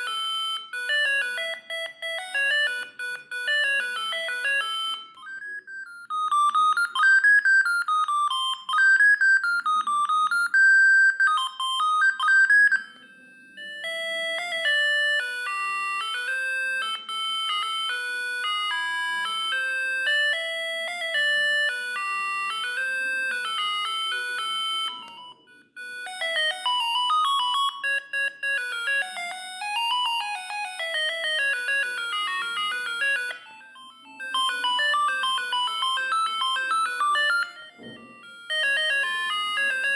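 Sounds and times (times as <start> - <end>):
beeping phone ringtones: 0.0 - 39.9.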